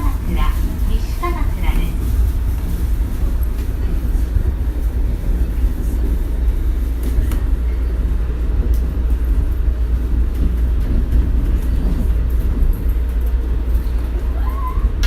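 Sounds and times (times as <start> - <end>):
monorail car rumbling: 0.0 - 15.0.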